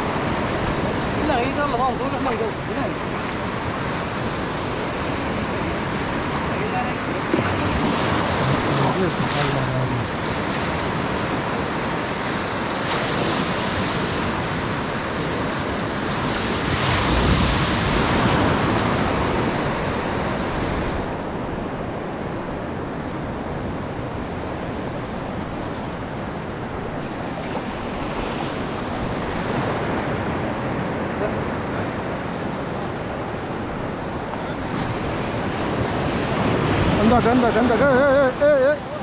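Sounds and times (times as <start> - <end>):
surf breaking and washing: 0.0 - 39.0.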